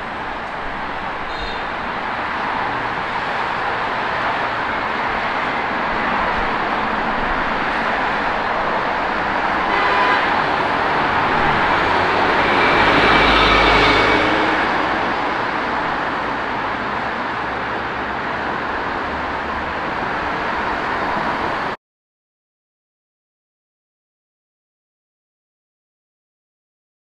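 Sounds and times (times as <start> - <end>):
cars passing: 0.0 - 21.8.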